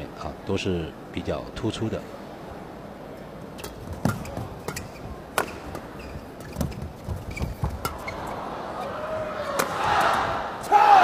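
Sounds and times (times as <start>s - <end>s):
indoor arena hum: 0.0s - 11.0s.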